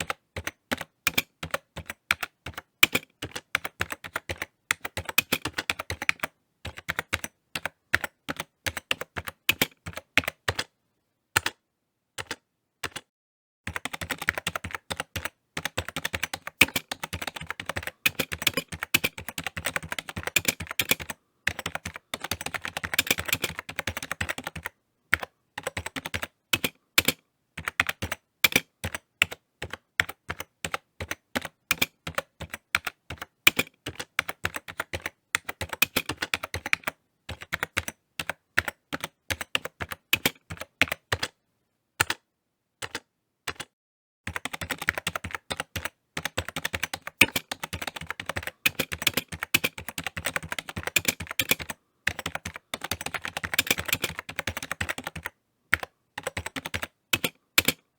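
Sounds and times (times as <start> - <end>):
typing on computer keyboard: 0.0 - 10.7, 11.4 - 11.6, 12.2 - 13.1, 13.7 - 41.4, 42.0 - 42.2, 42.8 - 57.9.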